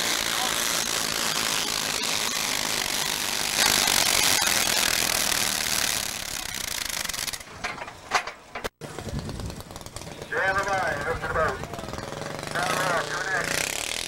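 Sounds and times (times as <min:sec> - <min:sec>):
tractor engine running hard: 0:00.0 - 0:14.0.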